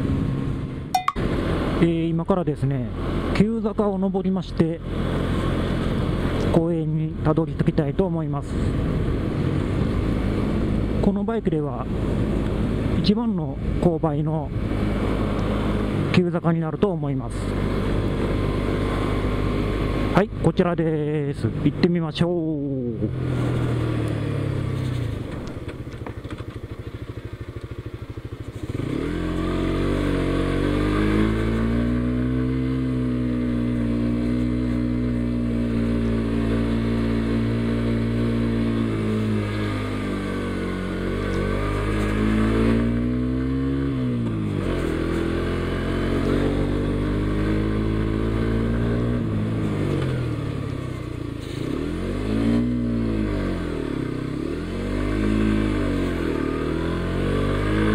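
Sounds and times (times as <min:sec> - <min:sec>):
motorcycle engine under load: 0:05.3 - 0:57.9.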